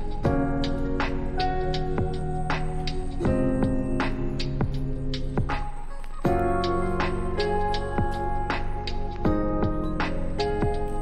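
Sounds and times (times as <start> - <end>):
background music with held chords: 0.0 - 11.0.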